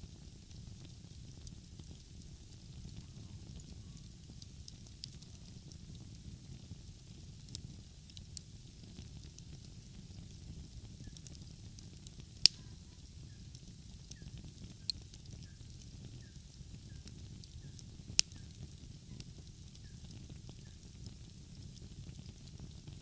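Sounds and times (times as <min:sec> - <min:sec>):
burning wood popping: 0:00.0 - 0:23.0
wood fire crackling: 0:00.0 - 0:23.0.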